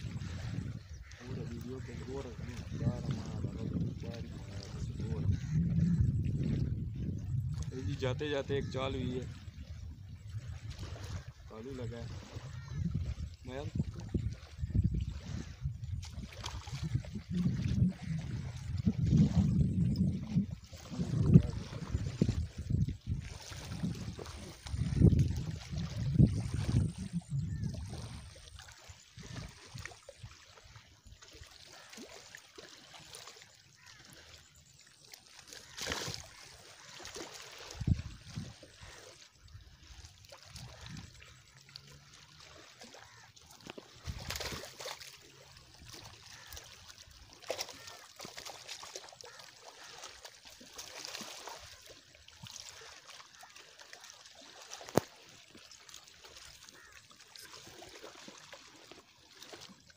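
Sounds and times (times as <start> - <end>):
water trickling and sloshing: 0.0 - 59.9
fish splashing in shallows: 9.2 - 59.9.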